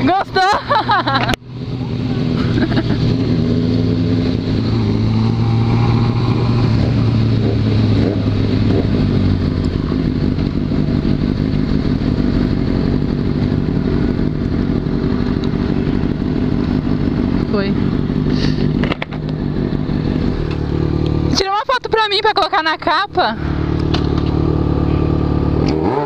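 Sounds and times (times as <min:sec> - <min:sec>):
motorcycle engines running slowly: 0:00.0 - 0:26.0.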